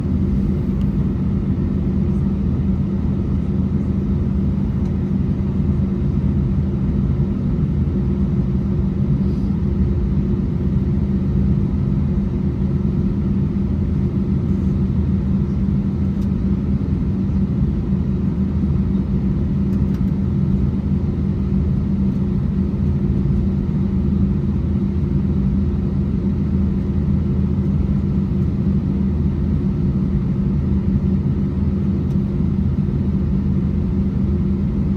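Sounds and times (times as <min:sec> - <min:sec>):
aircraft cabin drone: 0:00.0 - 0:34.9.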